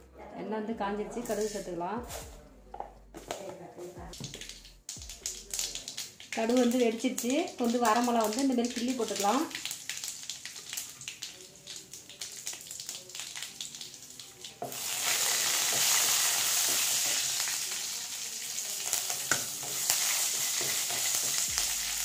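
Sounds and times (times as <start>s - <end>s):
oil sizzling: 4.1s - 22.0s
spices crackling in oil: 4.1s - 22.0s.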